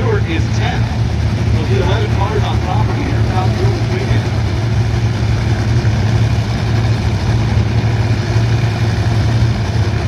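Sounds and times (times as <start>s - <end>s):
drag racing engine idling: 0.0s - 10.0s.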